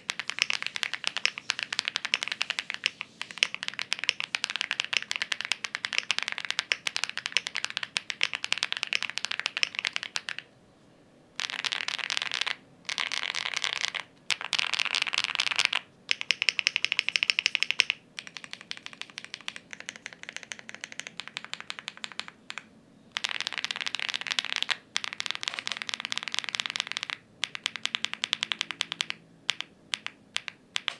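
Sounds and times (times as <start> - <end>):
mechanical keyboard typing: 0.0 - 10.4, 11.4 - 30.9.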